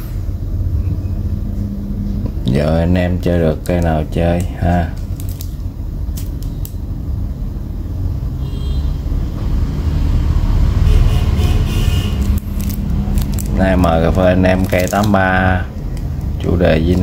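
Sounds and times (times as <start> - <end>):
passing road traffic rumble: 0.0 - 17.0.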